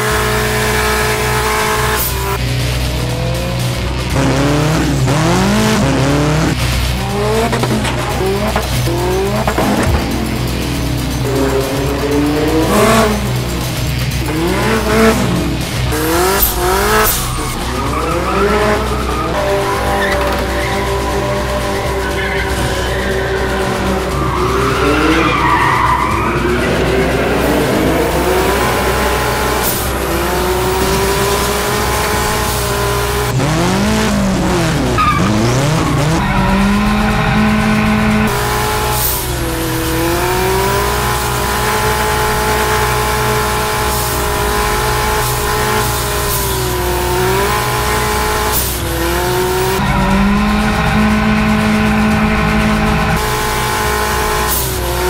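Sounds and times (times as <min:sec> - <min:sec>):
engine at high revs: 0:00.0 - 0:55.0
tyre squealing: 0:04.1 - 0:55.0.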